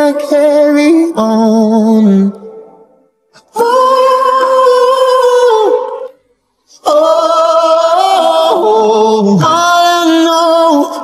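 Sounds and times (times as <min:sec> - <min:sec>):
wordless singing voice: 0:00.0 - 0:11.0.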